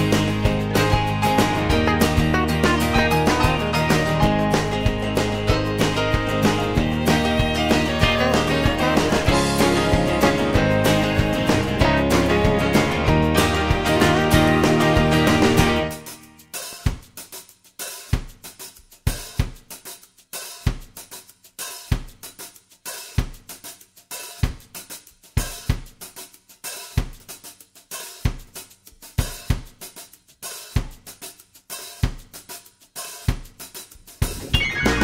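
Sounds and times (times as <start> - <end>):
drum kit playing a beat: 0.0 - 35.0.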